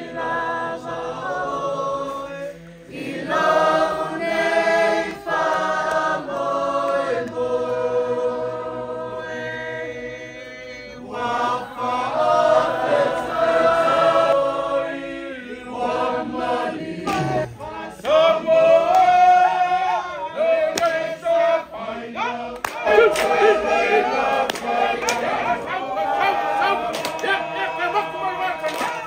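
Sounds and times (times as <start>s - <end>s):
group of voices singing: 0.0s - 29.0s.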